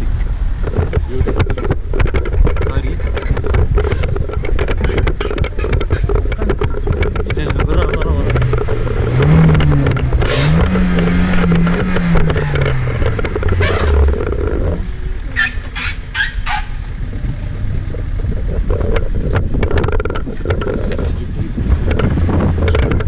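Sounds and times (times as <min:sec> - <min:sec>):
vehicle engine revving: 0:00.0 - 0:23.0.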